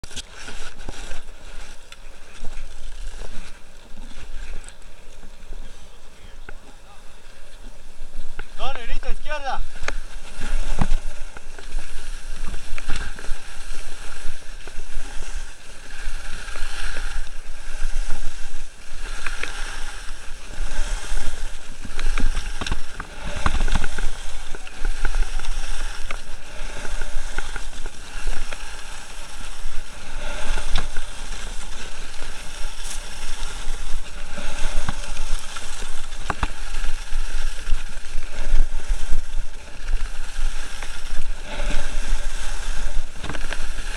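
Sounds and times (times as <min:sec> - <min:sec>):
skis scraping over snow: 0:00.0 - 0:43.9.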